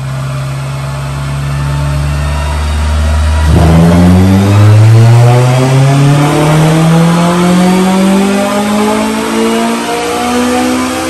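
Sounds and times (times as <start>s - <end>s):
car engine revving on a dyno: 0.0s - 11.0s.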